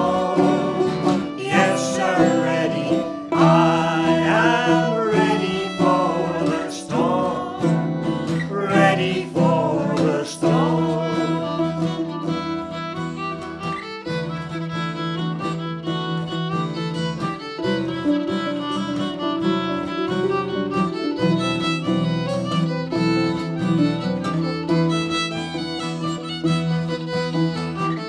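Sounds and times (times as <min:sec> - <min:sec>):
fiddle melody: 0:00.0 - 0:28.0
strummed and plucked guitar: 0:00.0 - 0:28.0.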